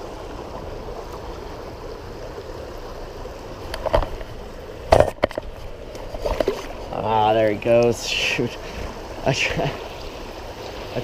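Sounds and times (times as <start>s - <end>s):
creek running: 0.0s - 11.0s.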